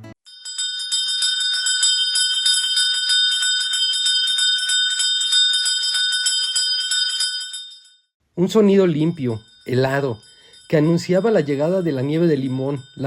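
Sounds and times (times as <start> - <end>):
handbell rung rapidly: 0.3 - 8.0, 8.8 - 13.0.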